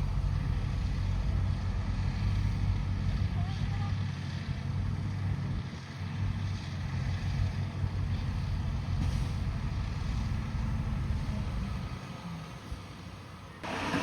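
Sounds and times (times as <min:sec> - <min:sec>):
bulldozer diesel engine droning: 0:00.0 - 0:14.0.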